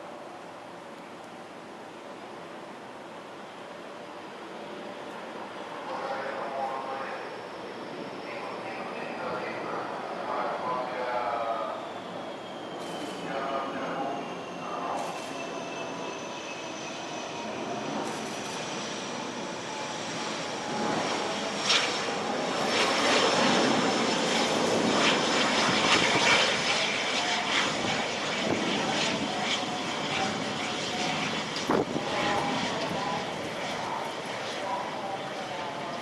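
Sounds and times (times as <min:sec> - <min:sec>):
jet plane passing with whine: 0:00.0 - 0:36.0.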